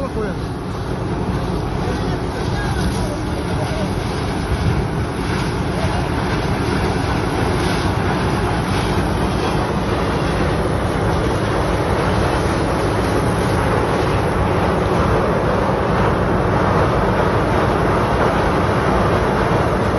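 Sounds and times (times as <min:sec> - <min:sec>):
farm machinery engine: 0:00.0 - 0:19.9
wind on microphone: 0:00.9 - 0:19.9.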